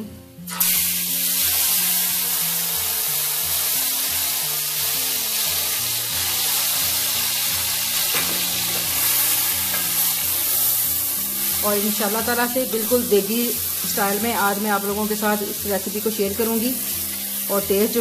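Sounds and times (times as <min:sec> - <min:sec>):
chicken sizzling in hot oil: 0:00.5 - 0:18.0.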